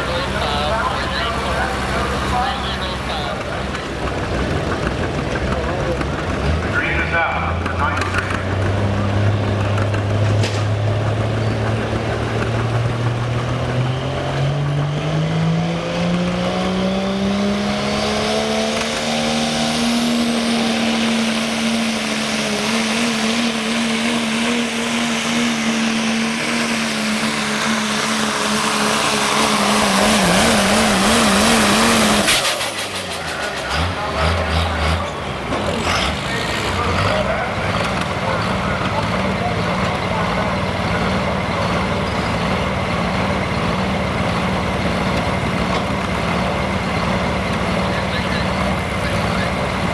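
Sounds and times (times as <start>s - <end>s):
diesel truck engine revving: 0.0s - 49.9s.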